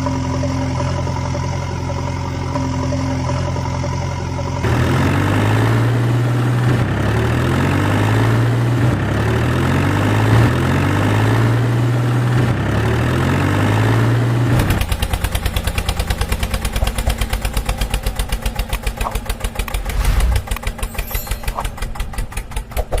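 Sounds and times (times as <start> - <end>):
engine droning and idling: 0.0 - 23.0.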